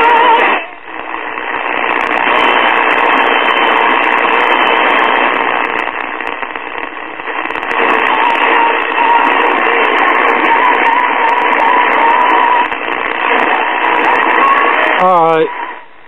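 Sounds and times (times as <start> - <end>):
faint radio whistle: 0.0 - 16.0
radio static hiss: 0.0 - 16.0.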